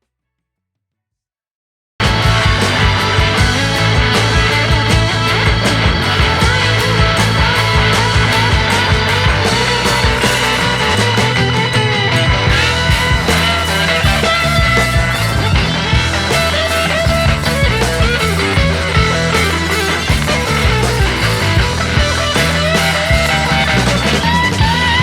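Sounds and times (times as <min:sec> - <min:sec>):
rock music with guitar and beat: 0:02.0 - 0:25.0.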